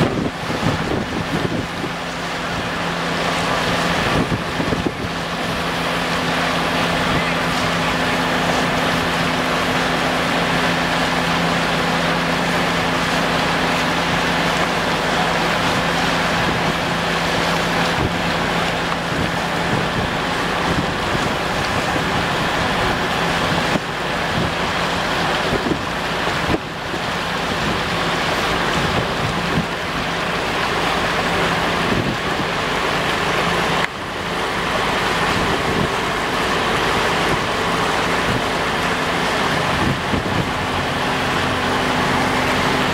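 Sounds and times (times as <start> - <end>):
wind noise on microphone: 0.0 - 13.3, 13.9 - 30.2, 31.3 - 32.7, 35.0 - 42.9
boat engine droning: 0.0 - 42.9
rushing water: 0.0 - 42.9.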